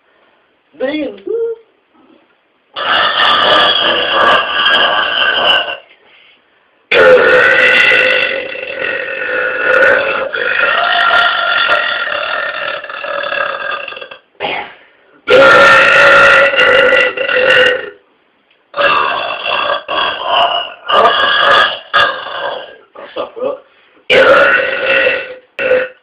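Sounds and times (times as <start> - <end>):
man belching: 2.8 - 5.9, 6.9 - 18.0, 18.8 - 26.0.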